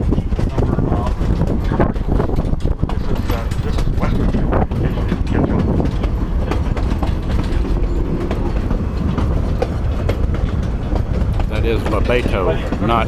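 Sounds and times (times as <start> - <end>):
clacks over rail joints: 0.0 - 13.0
train wheels rumbling on rail: 0.0 - 13.0.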